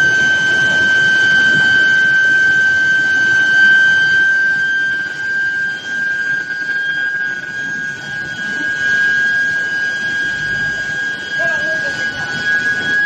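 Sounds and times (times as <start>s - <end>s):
factory and roller-line noise: 0.0s - 4.6s, 6.9s - 13.0s
induction coil whine: 0.0s - 13.0s.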